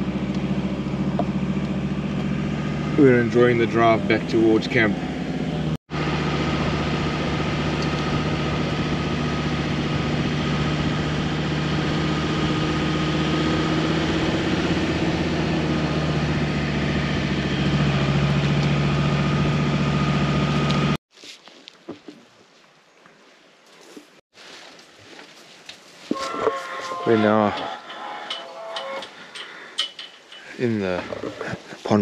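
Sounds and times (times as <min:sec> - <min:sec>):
vehicle engine humming: 0:00.0 - 0:21.0, 0:26.2 - 0:31.9.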